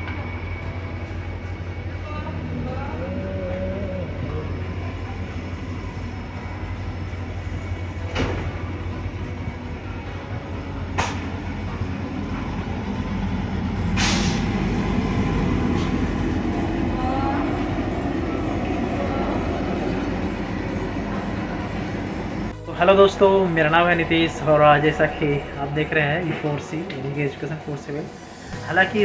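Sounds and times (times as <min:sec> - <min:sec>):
train rumble and hum: 0:00.0 - 0:29.0.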